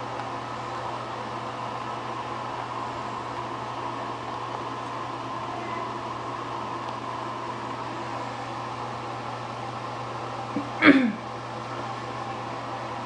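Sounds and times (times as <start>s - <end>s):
fan-like hum and hiss: 0.0s - 13.0s.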